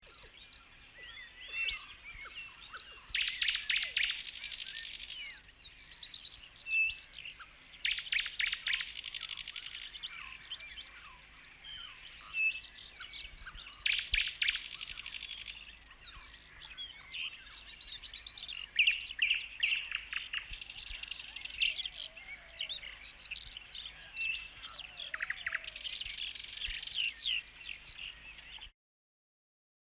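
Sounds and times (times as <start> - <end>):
birds chirping: 0.0 - 28.7.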